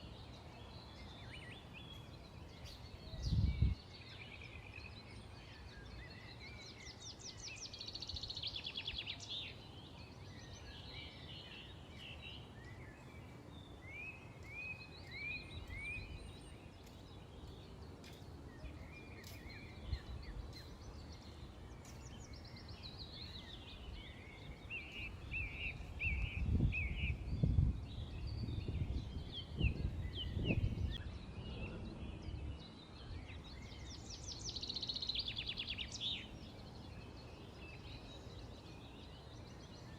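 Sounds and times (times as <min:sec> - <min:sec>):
low background noise: 0:00.0 - 0:39.9
songbirds chirping: 0:00.0 - 0:39.9.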